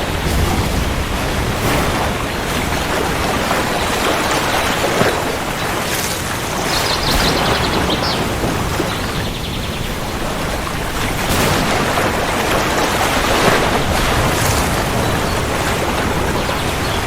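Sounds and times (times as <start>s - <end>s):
rain downpour: 0.0s - 17.0s
thunder rumbling: 0.0s - 17.0s.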